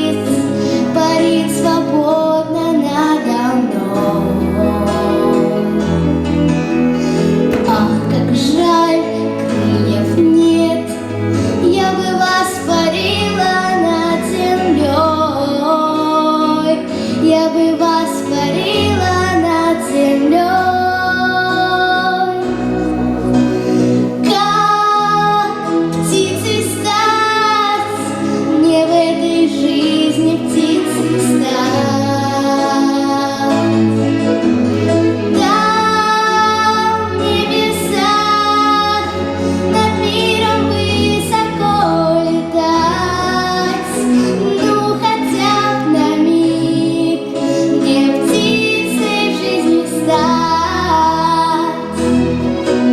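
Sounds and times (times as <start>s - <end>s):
girl singing: 0.0s - 5.8s, 7.5s - 11.0s, 11.6s - 22.4s, 24.2s - 33.7s, 35.4s - 51.9s
instrumental backing track: 0.0s - 52.9s.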